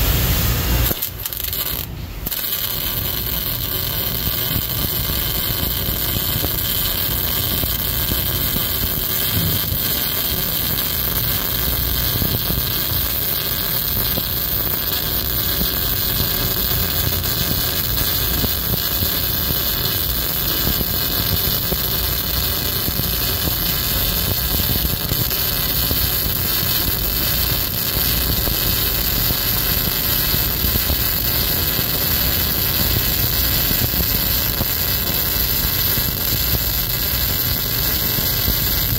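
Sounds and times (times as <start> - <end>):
welding arc hissing: 0.0 - 38.9.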